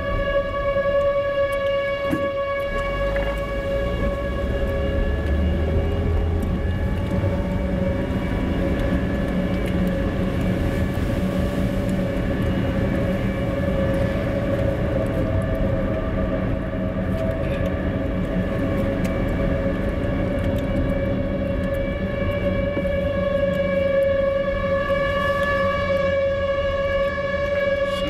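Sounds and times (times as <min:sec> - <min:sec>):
low rumbling noise: 0:00.0 - 0:28.0
warning siren high tone: 0:00.0 - 0:28.0.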